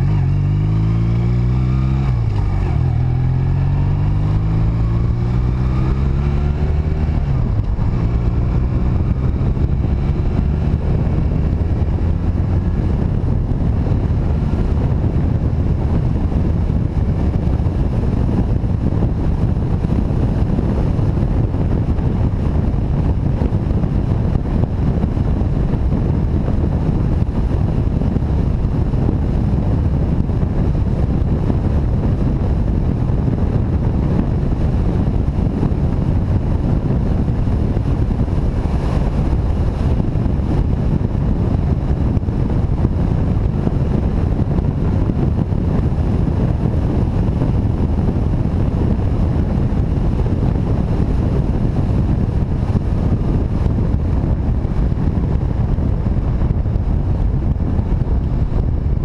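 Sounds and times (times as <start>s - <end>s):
motorcycle engine rumble: 0.0s - 59.0s
wind on microphone: 0.0s - 59.0s.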